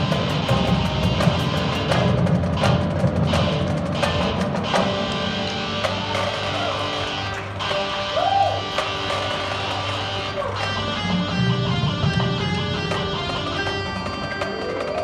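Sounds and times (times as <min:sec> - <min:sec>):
marching band playing: 0:00.0 - 0:15.0
sharp percussion hits: 0:00.0 - 0:15.0.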